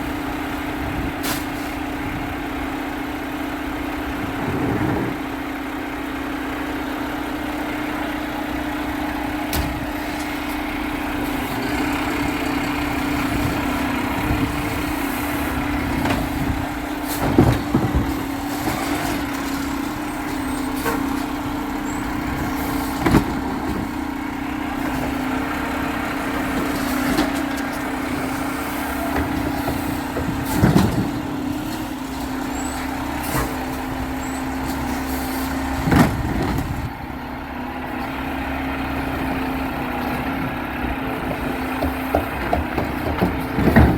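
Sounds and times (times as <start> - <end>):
garbage truck humming: 0.0 - 43.9.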